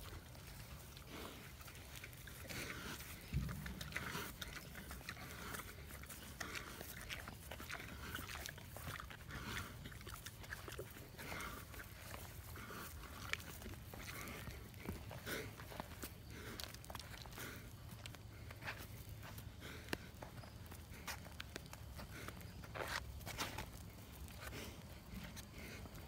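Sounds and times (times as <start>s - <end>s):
pig snuffling and chewing: 0.0s - 26.0s.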